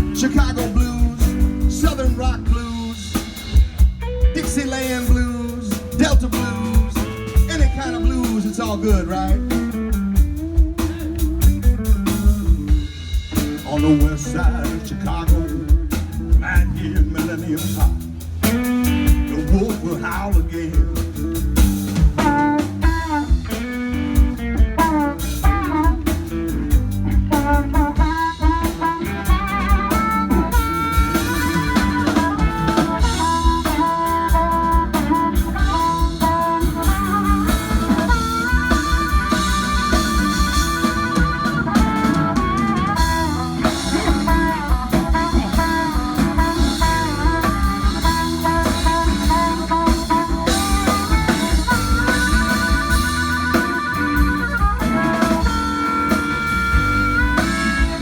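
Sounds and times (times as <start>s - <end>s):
bass guitar: 0.0s - 58.0s
drums: 0.0s - 58.0s
lead guitar bent held notes: 0.0s - 58.0s.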